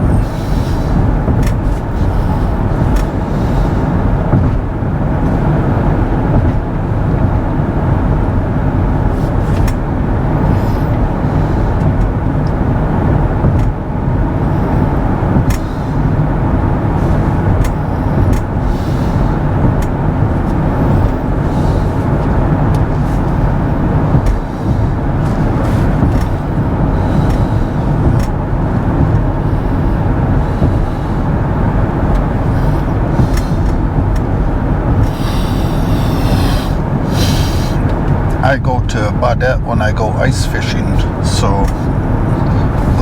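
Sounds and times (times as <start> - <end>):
road and tyre noise in car: 0.0 - 43.0.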